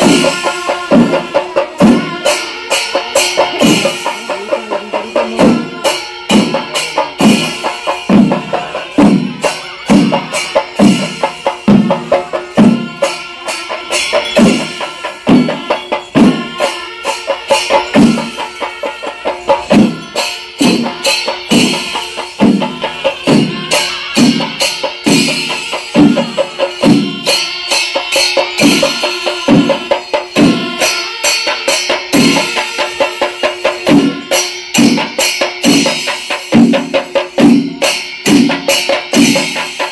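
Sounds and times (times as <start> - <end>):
drums beaten with sticks: 0.0 - 39.9
hand cymbals clashing: 0.0 - 39.9.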